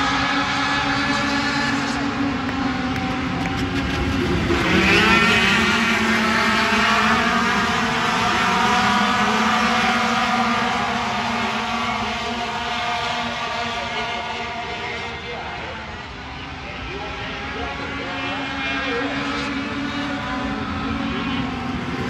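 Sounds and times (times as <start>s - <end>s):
racing truck engines: 0.0s - 22.0s.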